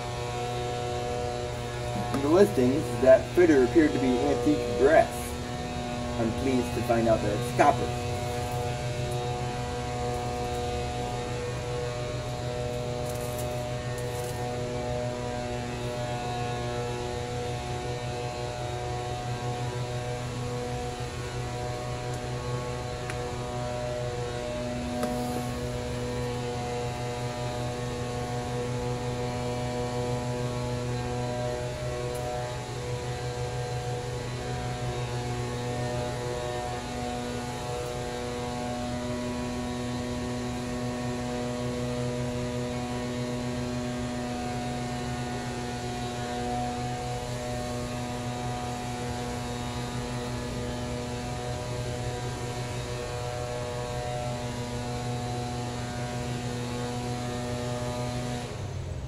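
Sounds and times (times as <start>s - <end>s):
ceiling fan motor humming: 0.0s - 59.0s.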